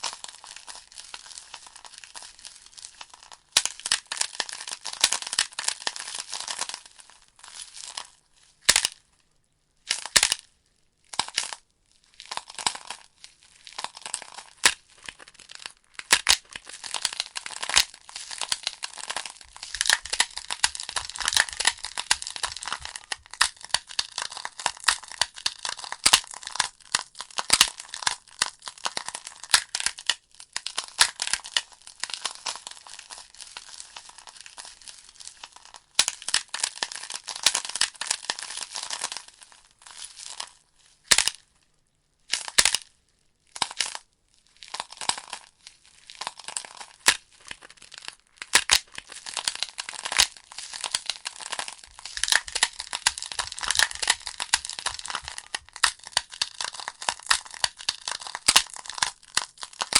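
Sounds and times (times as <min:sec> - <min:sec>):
logs crackling and popping: 0:00.0 - 0:09.0, 0:12.2 - 0:41.3, 0:44.6 - 0:59.9.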